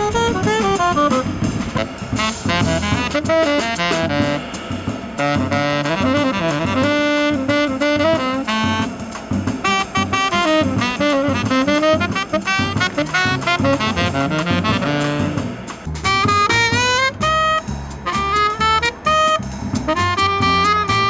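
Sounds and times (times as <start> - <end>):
bass line: 0.0 - 21.0
horn playing jazz melody: 0.0 - 21.0.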